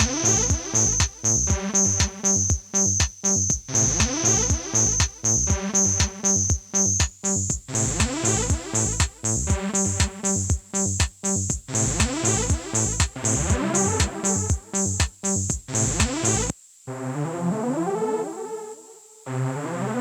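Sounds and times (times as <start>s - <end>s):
pulsing electronic beat: 0.0s - 16.5s.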